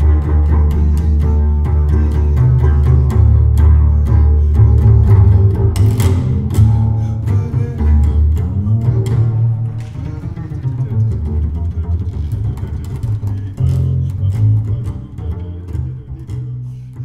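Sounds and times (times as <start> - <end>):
jazz double bass pizzicato: 0.0 - 17.0.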